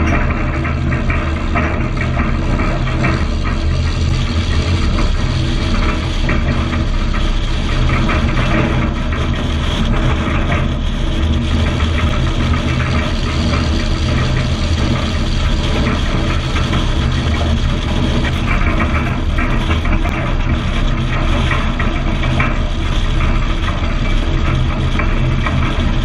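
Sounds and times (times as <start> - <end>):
diesel truck engine cruising: 0.0 - 26.0.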